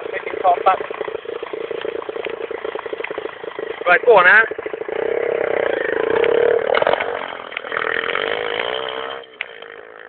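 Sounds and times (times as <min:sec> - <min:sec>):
motorbike engine revving hard: 0:00.0 - 0:10.0.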